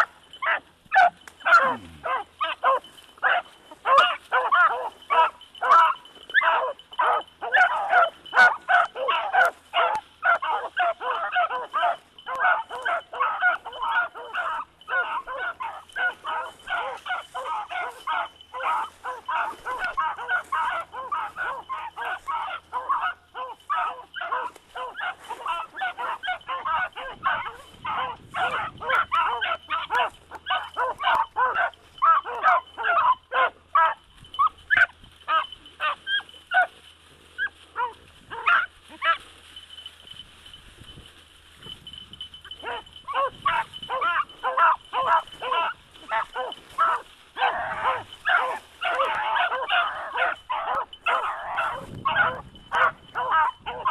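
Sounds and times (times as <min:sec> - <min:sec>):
dogs barking and yipping: 0:00.0 - 0:53.9.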